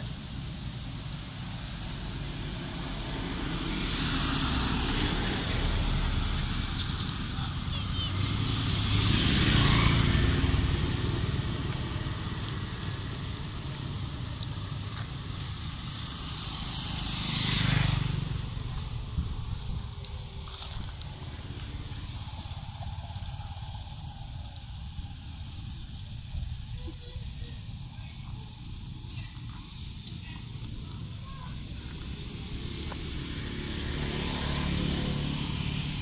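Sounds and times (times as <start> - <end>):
motor scooters passing: 0.0 - 36.0
traffic noise: 0.0 - 36.0.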